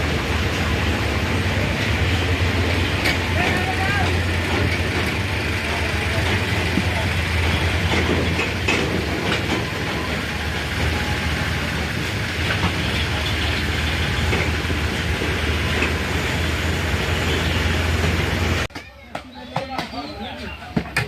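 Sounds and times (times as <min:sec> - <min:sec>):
tractor engine running: 0:00.0 - 0:18.7.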